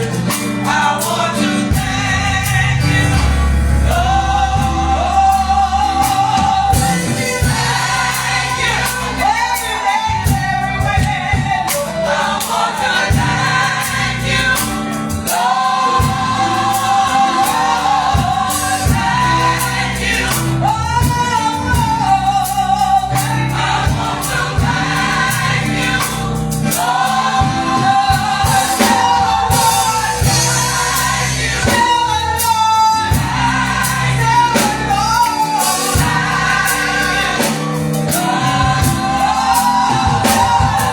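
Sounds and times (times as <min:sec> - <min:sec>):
gospel choir with band: 0:00.0 - 0:40.9.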